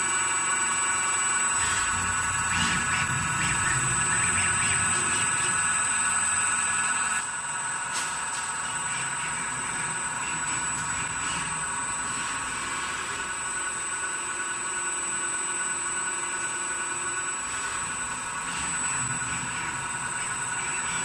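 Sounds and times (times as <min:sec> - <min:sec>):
mechanical whine of rotary table: 0:00.0 - 0:21.0.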